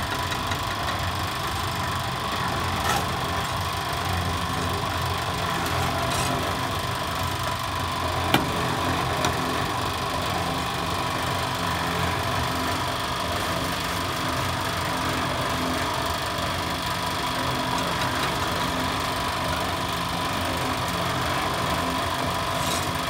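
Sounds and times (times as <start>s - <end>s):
concrete mixer humming: 0.0s - 23.0s.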